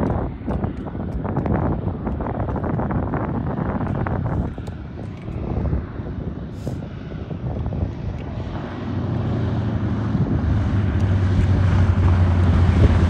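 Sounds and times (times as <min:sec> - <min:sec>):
radial aircraft engine hum: 0:00.0 - 0:13.0.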